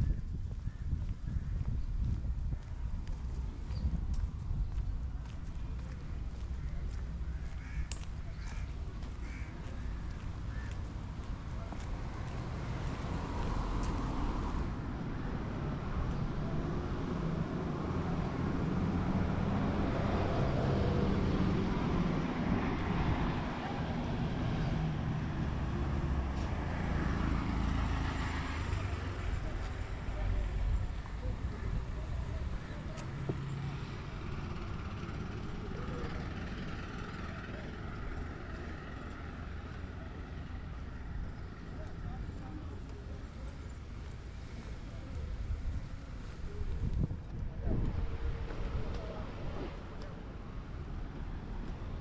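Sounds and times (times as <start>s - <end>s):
low engine hum: 0.0s - 52.0s
low rumble of road traffic: 0.0s - 52.0s
outdoor street noise: 0.0s - 52.0s
vehicle engines running: 0.3s - 52.0s.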